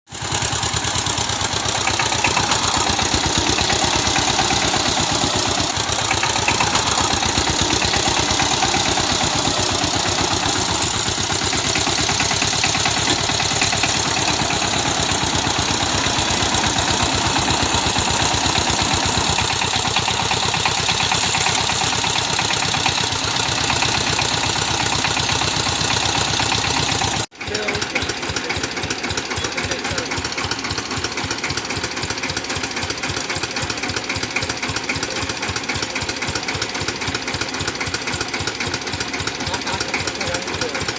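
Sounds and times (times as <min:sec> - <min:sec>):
diesel engine chugging: 0:00.1 - 0:40.9.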